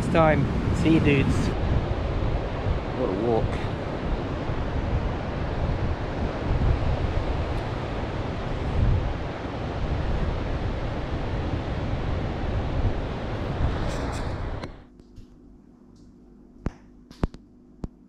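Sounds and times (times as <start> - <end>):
surf washing onto beach: 0.0 - 14.6
wind buffeting microphone: 0.0 - 14.9.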